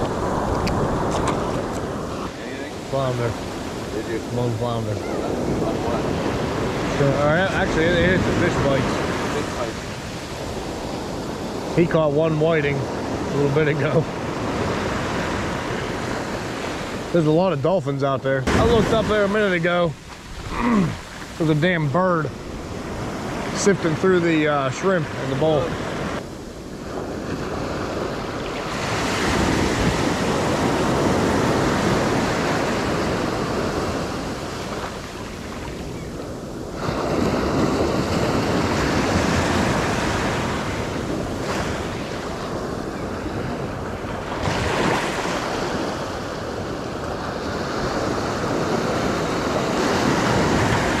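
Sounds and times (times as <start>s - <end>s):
ocean surf breaking: 0.0s - 51.0s
wind buffeting microphone: 0.0s - 51.0s.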